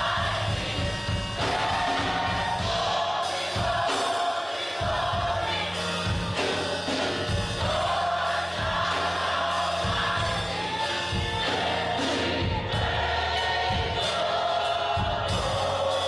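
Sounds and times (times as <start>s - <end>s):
choir singing gospel: 0.0s - 16.0s
steady bass accompaniment: 0.0s - 16.0s.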